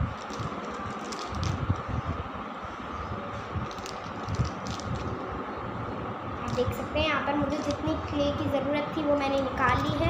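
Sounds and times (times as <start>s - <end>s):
steady background noise: 0.0s - 10.0s.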